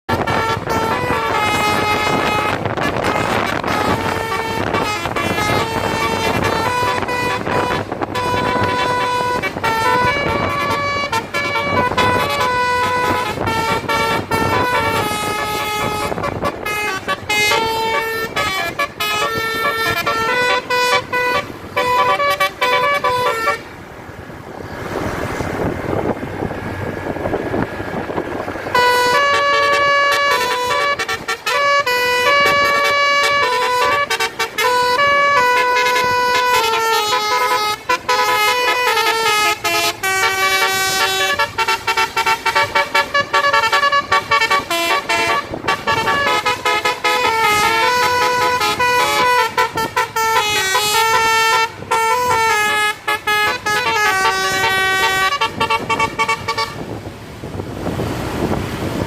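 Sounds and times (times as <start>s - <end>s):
musical bus horn melody: 0.1s - 23.8s, 28.0s - 57.6s
rushing noise: 0.1s - 59.0s.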